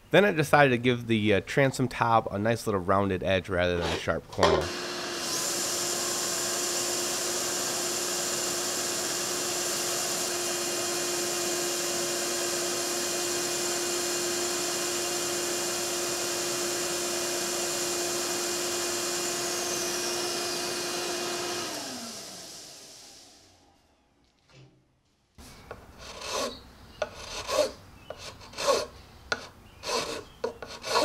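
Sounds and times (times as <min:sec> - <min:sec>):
sander running: 0:03.8 - 0:23.5, 0:25.4 - 0:31.0.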